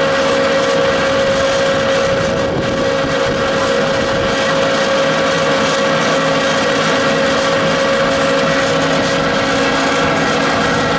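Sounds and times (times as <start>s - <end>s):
pellet mill humming and whining: 0.0s - 10.9s.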